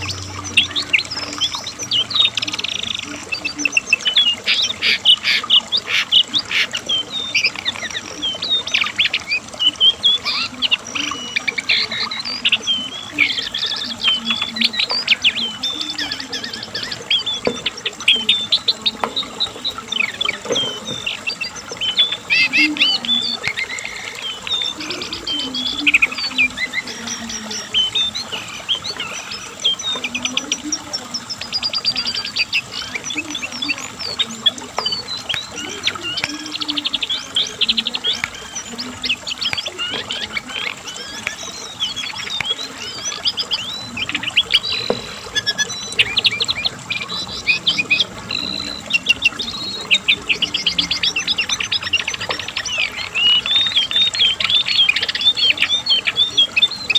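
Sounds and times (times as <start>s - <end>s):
bird singing chirps and trills: 0.0s - 56.9s.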